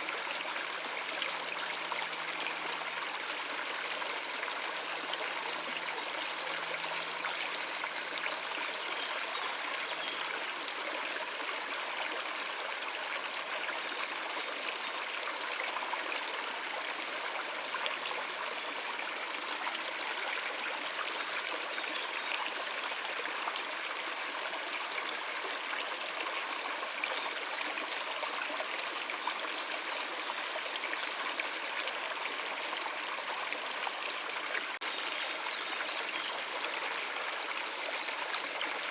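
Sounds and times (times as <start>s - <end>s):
stream water running over rocks: 0.0s - 38.9s.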